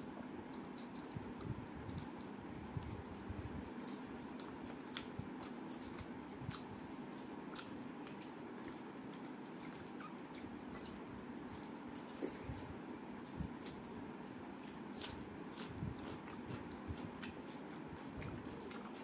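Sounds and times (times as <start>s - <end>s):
person chewing: 0.1s - 19.0s.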